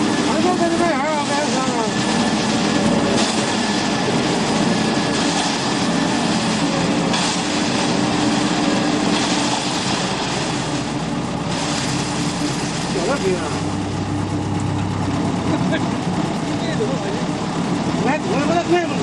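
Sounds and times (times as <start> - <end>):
concrete mixer drum clatter: 0.0 - 19.0
engine hum: 0.0 - 19.0.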